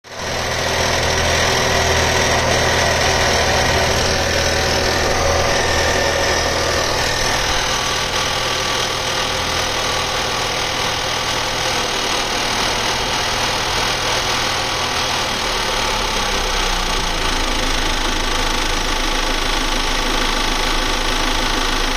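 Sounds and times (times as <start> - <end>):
car engine running: 0.0 - 21.9
engine rattle: 0.0 - 21.9.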